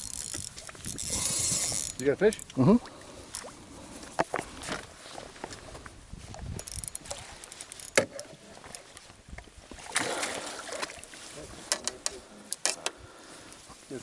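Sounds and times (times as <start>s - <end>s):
fishing gear clicks and knocks: 0.0s - 2.6s, 4.1s - 13.0s.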